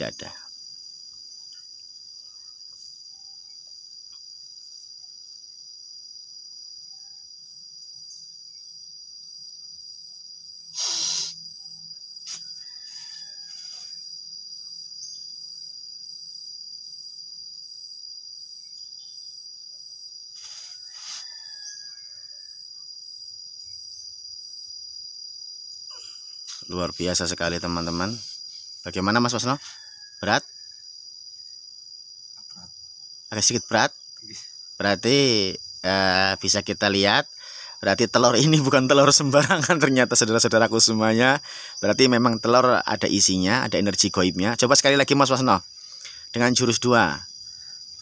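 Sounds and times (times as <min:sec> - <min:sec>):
insects chirping: 0:00.0 - 0:48.0.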